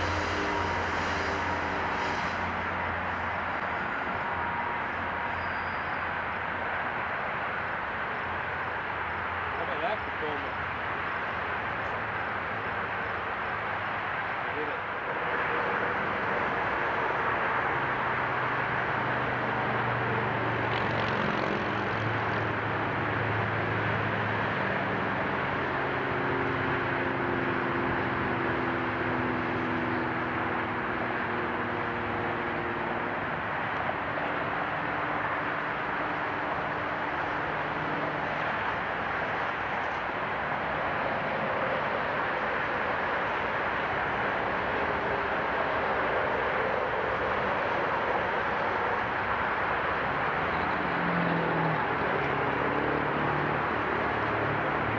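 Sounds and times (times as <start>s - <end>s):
diesel locomotive engine hum: 0.0s - 54.9s.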